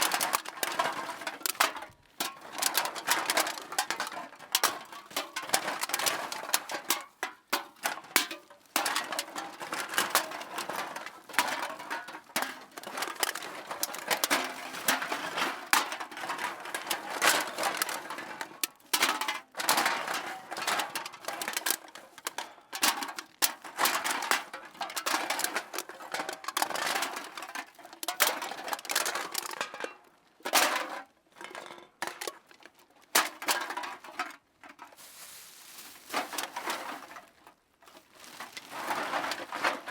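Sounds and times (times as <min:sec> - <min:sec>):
cans clinking into a bag: 0:00.0 - 0:37.4.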